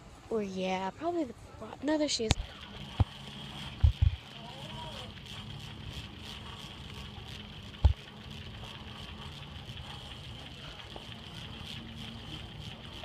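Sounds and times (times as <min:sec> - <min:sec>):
store background rumble: 0:00.0 - 0:13.0
shopping cart wheels ticking: 0:01.8 - 0:13.0.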